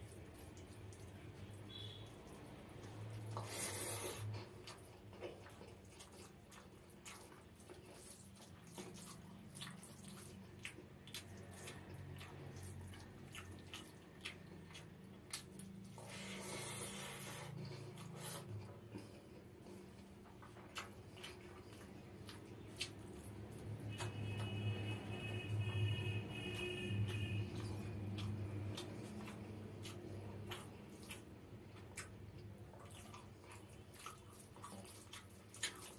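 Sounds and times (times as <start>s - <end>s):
fingers squelching food: 0.0s - 35.9s
wet chewing and lip smacks: 0.0s - 35.9s.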